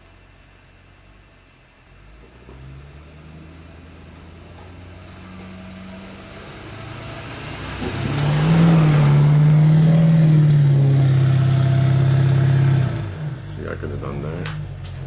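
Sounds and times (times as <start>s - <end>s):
snowplow truck engine: 2.0s - 14.0s.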